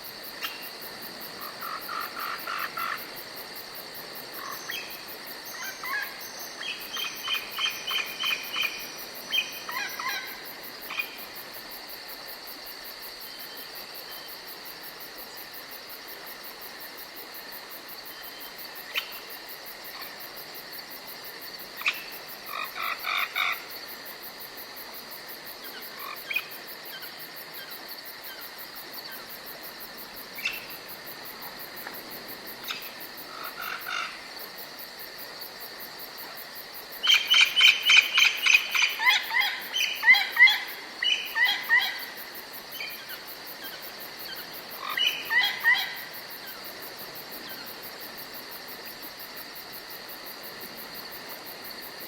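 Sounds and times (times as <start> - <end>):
high insect trill: 0.0 - 52.0.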